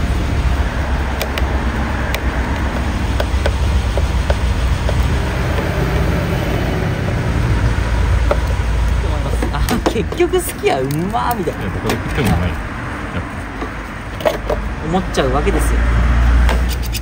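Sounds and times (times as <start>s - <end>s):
low rumble of street traffic: 0.0s - 17.0s.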